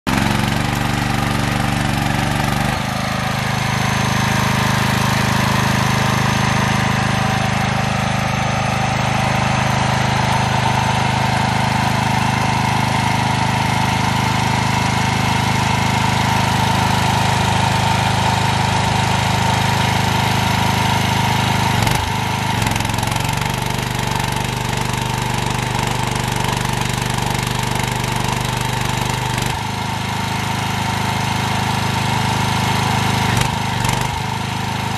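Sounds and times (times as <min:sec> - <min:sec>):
generator engine running: 0:00.1 - 0:34.9.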